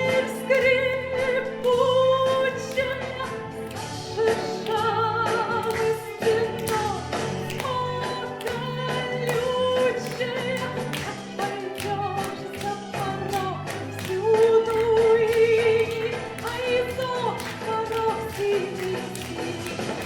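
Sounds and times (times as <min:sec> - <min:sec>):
folk song singing: 0:00.0 - 0:20.0
instrumental accompaniment: 0:00.0 - 0:20.0.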